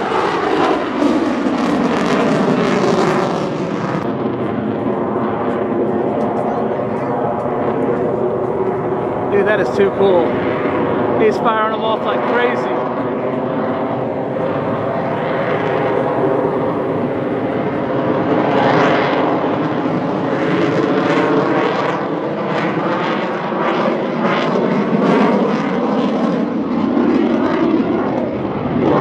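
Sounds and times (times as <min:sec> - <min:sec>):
airplane engine overhead: 0:00.0 - 0:29.0.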